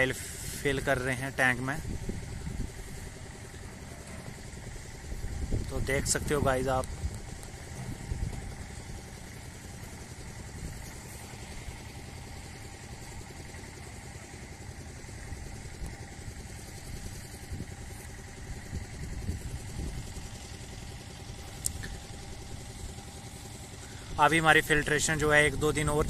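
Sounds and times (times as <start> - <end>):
pumping machinery droning: 0.0 - 26.0.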